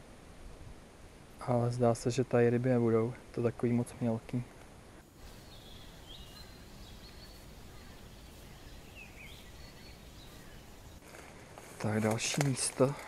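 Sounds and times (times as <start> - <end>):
open-air background hiss: 0.0 - 13.0.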